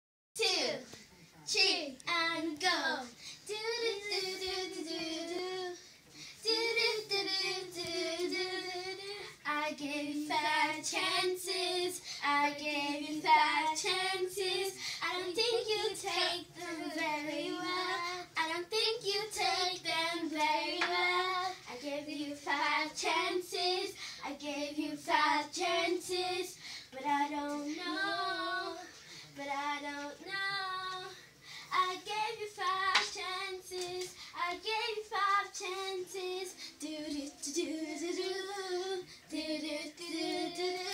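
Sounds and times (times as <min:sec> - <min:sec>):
girl singing unaccompanied: 0:01.5 - 0:40.9.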